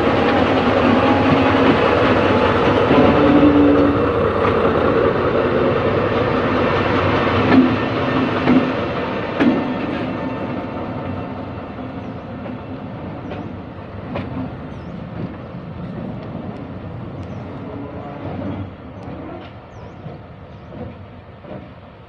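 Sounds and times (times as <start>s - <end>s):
locomotive engine hum: 0.0s - 22.0s.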